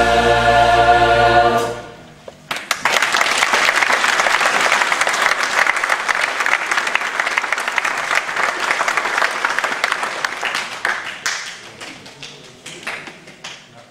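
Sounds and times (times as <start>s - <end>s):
audience applauding: 2.5s - 13.9s.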